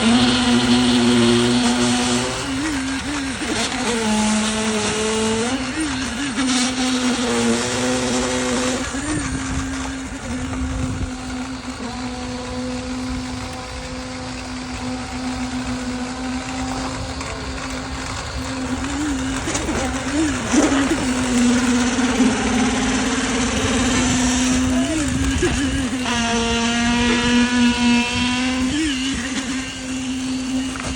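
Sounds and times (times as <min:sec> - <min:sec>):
construction machinery engine humming: 0:00.0 - 0:30.9.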